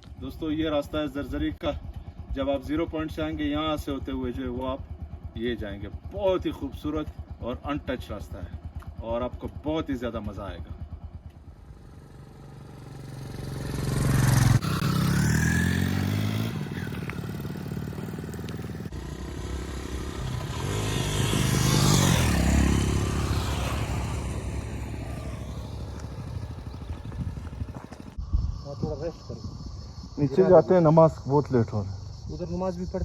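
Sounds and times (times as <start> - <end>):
motorcycle engines passing: 1.0 - 28.2.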